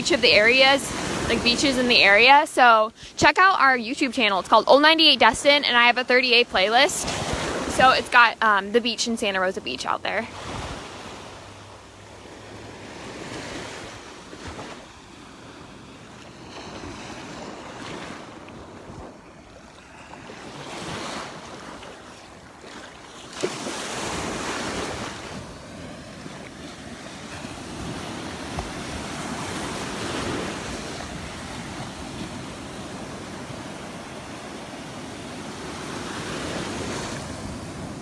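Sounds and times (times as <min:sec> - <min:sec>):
surf breaking on beach: 0:04.2 - 0:38.0.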